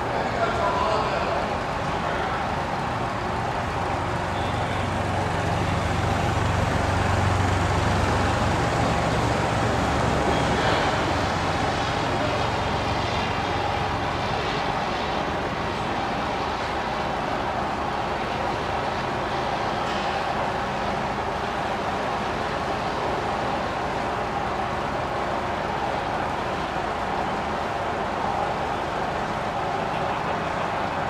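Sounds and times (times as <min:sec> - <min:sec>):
propeller plane engine in flight: 0:00.0 - 0:31.0.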